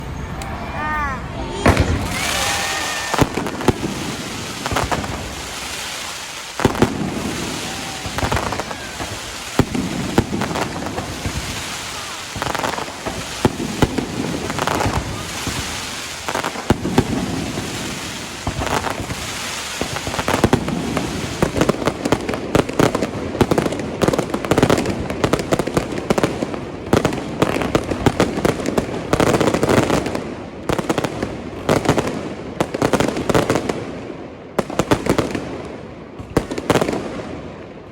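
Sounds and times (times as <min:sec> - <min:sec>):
fireworks bursting with booms: 0:01.5 - 0:37.9.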